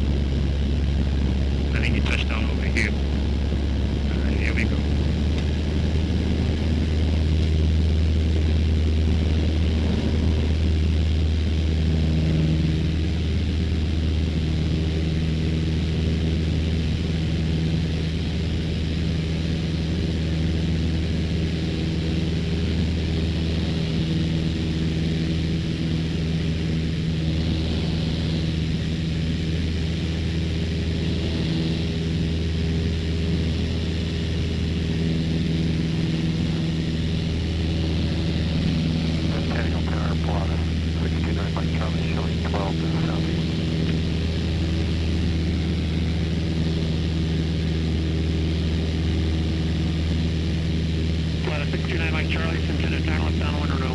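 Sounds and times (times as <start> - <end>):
small plane engine droning: 0.0 - 53.9.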